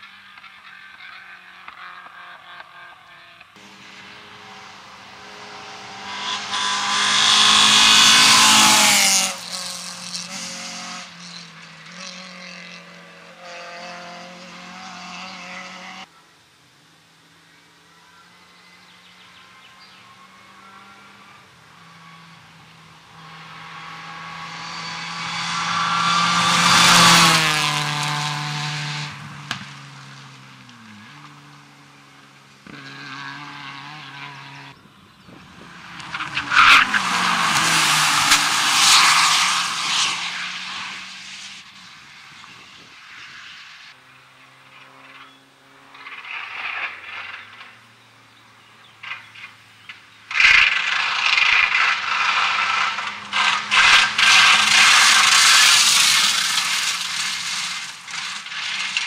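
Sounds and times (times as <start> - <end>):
rally car engines revving past: 0.0 - 16.1, 18.3 - 59.0
gravel and tyres hissing: 3.6 - 16.1, 18.8 - 59.0.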